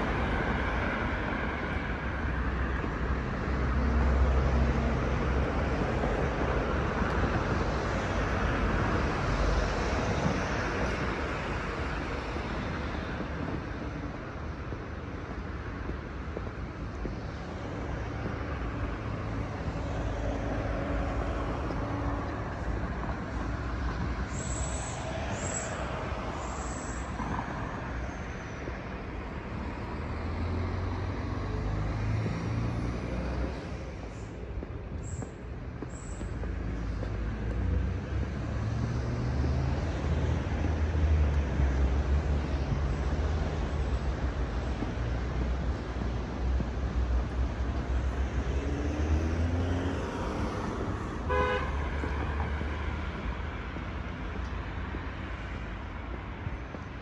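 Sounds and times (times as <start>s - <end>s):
vehicles passing on road: 0.0s - 57.0s.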